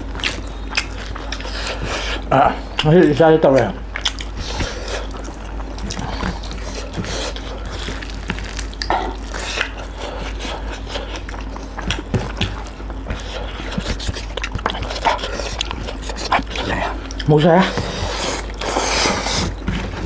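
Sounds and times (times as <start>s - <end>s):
wet chewing and squelching: 0.0s - 19.7s.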